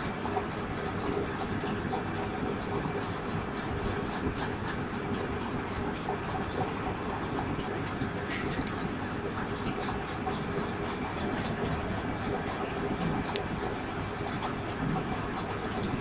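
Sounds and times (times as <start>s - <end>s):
low burner rumble: 0.0s - 16.0s.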